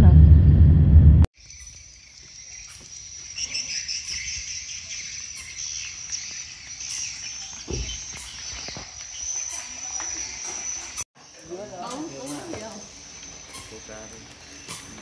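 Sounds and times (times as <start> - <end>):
high-pitched insect chirring: 1.4 - 14.9
flickering insect chirps: 1.4 - 15.0.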